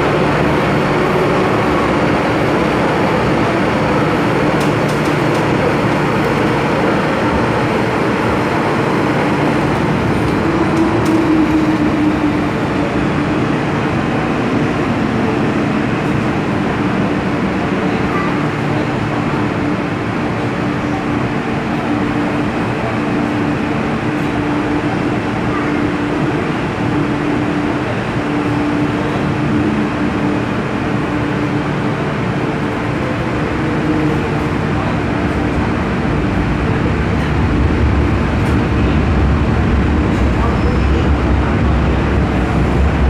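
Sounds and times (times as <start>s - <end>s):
metro car rumble: 0.0s - 43.0s.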